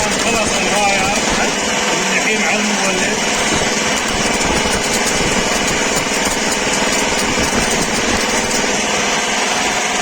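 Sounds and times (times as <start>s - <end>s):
welding arc crackling and hissing: 0.0s - 9.3s
generator engine running: 0.0s - 10.0s.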